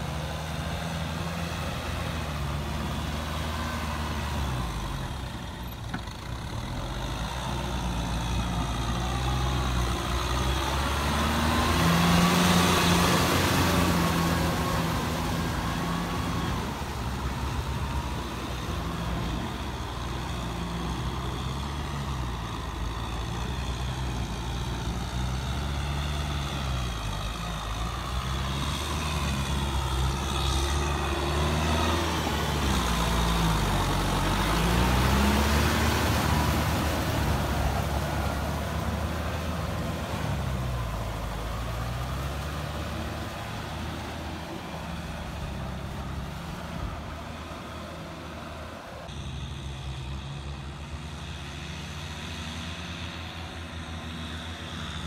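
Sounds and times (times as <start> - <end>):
diesel tractor engines under load: 0.0 - 55.0.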